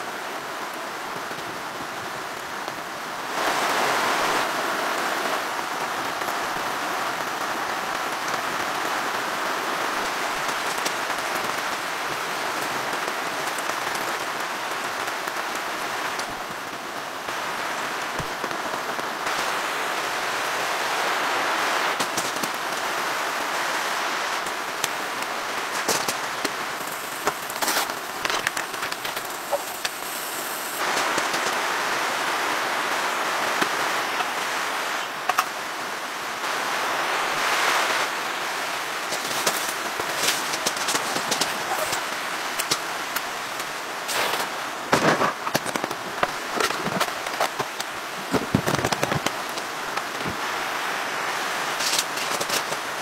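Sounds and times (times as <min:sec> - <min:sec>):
rain on a tent: 0:00.0 - 0:53.0.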